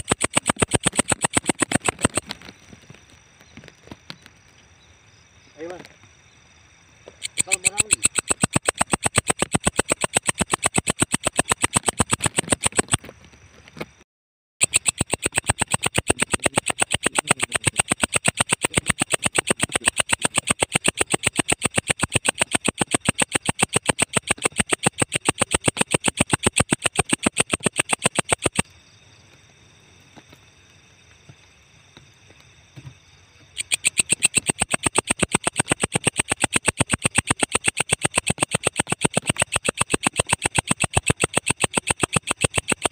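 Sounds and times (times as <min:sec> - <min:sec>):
insect buzzy clicking: 0:00.0 - 0:04.6, 0:07.0 - 0:13.9, 0:14.6 - 0:29.0, 0:33.5 - 0:42.9.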